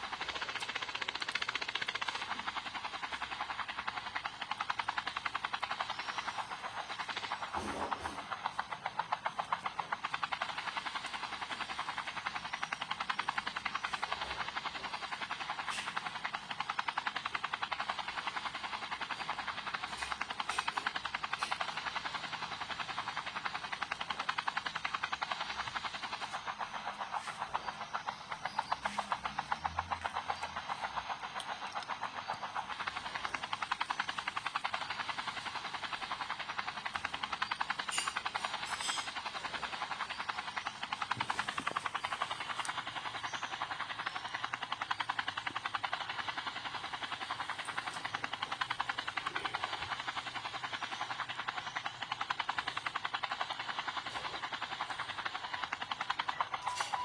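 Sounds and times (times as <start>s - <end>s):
helicopter rotor chopping: 0.0s - 57.0s.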